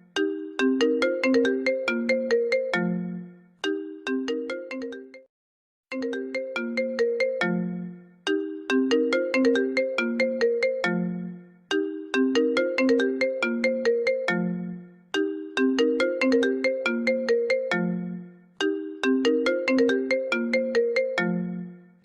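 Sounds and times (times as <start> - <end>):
phone ringtone: 0.0 - 5.3, 5.9 - 21.9.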